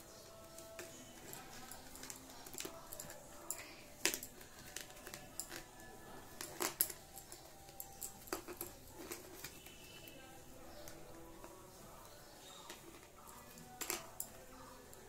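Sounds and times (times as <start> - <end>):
plastic bowl and cord clicking: 0.0 - 15.0.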